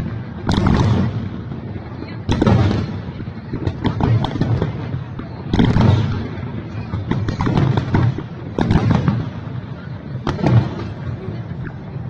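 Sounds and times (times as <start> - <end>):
fireworks bangs and crackles: 0.0 - 12.0
heavy firework boom: 0.0 - 12.0.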